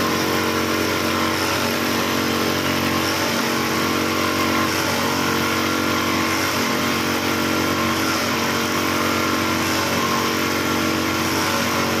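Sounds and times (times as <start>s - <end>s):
factory machinery running: 0.0s - 12.0s
sewing machine humming: 0.0s - 12.0s.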